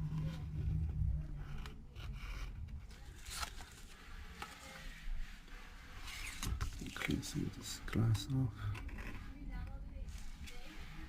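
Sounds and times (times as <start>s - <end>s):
faint scraping: 0.0s - 11.0s.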